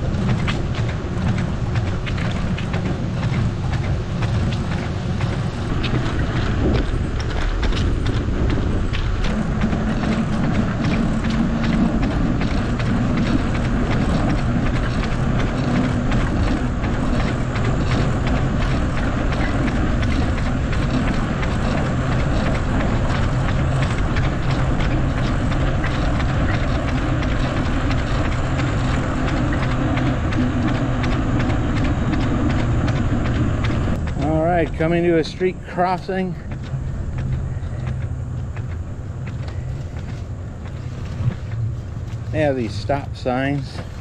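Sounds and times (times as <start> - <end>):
fast even ticking: 0.0 - 44.0
tyre and wind rushing: 0.0 - 44.0.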